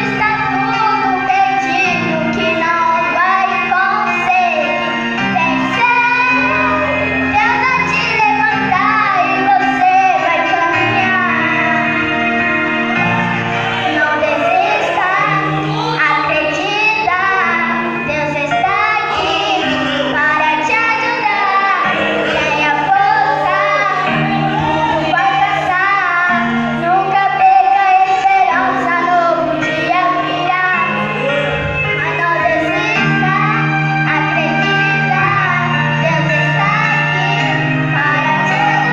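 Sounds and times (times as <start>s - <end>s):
person singing: 0.0s - 12.8s, 13.5s - 38.9s
instrumental backing with bass notes: 0.0s - 38.9s.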